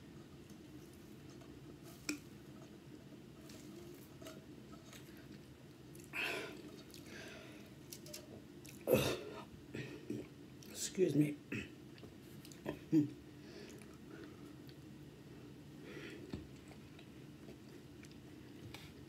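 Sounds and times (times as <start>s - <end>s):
soft chewing: 0.2s - 10.8s, 11.9s - 15.0s, 16.0s - 19.0s.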